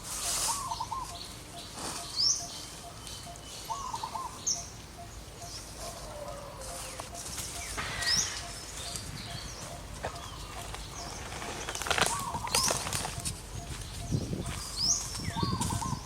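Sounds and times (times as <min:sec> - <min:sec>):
high chirping animal calls: 0:00.4 - 0:16.0.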